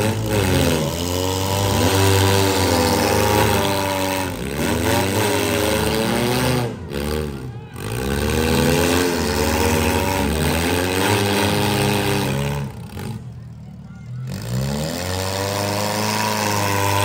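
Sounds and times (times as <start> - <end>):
car engines revving hard: 0.0 - 13.5, 14.1 - 17.0.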